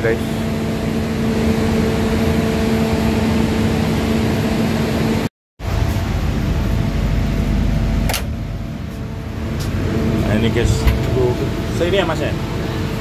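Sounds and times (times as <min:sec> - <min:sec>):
train coach mechanical hum: 0:00.0 - 0:13.0.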